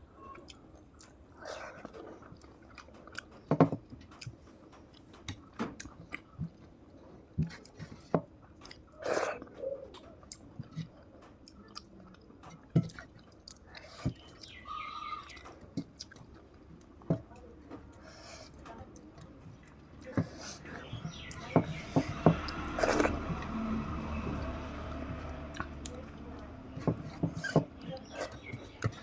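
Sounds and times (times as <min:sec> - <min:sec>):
person chewing food: 0:00.3 - 0:29.0.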